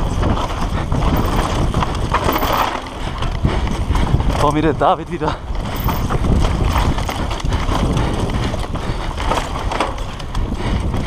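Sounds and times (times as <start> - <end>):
bike rattling over bumps: 0.0 - 11.0
bike tyres rumbling on dirt: 0.0 - 11.0
wind buffeting microphone: 0.0 - 11.0.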